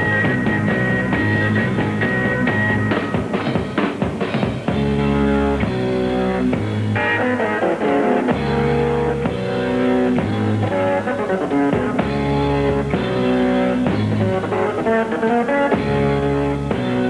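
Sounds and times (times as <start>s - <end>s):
bass guitar: 0.0s - 17.0s
drums: 0.0s - 17.0s
held keyboard chords: 0.0s - 17.0s.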